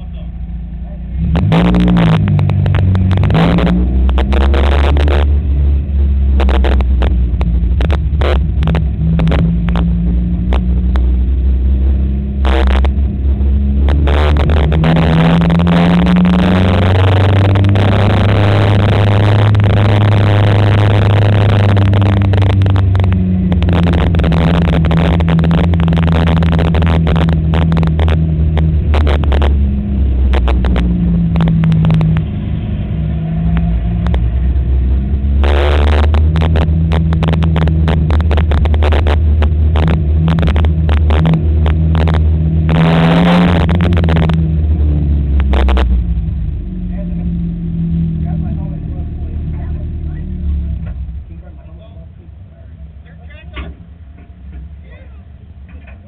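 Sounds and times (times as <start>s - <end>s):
car engine at low revs: 0.0s - 56.0s.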